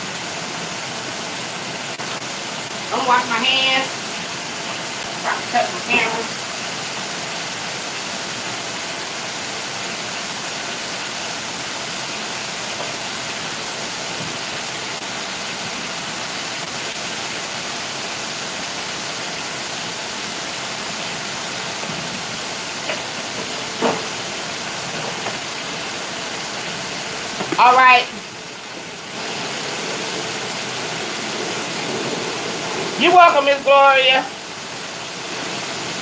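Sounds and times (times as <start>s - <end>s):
meat deep-frying in oil: 0.0s - 36.0s.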